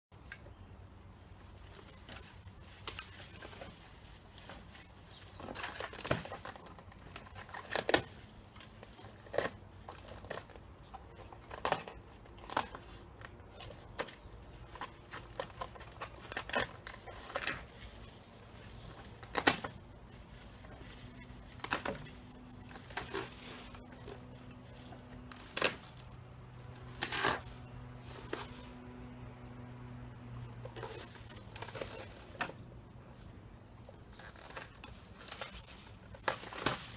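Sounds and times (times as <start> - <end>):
dogs ripping dry leaves: 1.7 - 32.5, 33.1 - 36.9.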